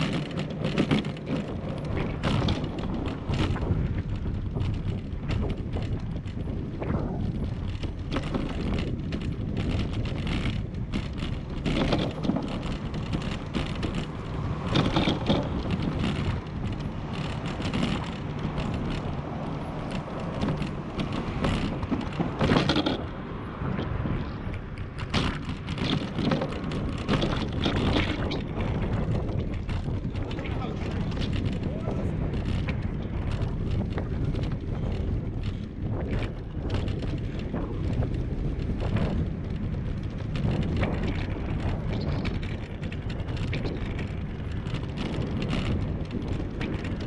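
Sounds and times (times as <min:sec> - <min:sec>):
bicycle tyres rumbling on bricks: 0:00.0 - 0:47.0
bike clicks and knocks: 0:00.0 - 0:47.0
wind on microphone: 0:00.0 - 0:47.0.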